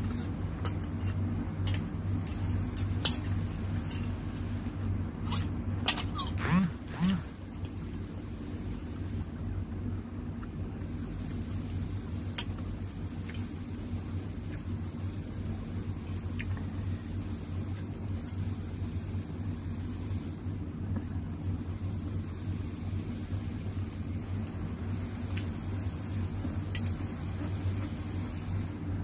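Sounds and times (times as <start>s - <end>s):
electric fan humming: 0.0s - 29.0s.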